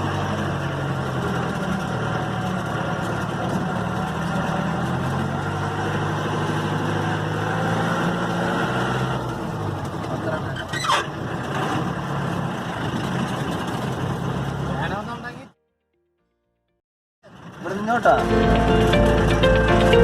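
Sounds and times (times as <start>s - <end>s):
jeep engine running: 0.0s - 15.6s, 17.2s - 20.0s.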